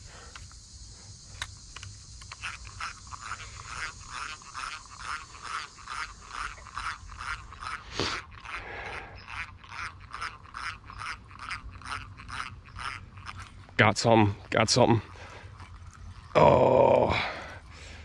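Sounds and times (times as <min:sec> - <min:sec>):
fishing reel grinding clicks: 0:00.2 - 0:18.0.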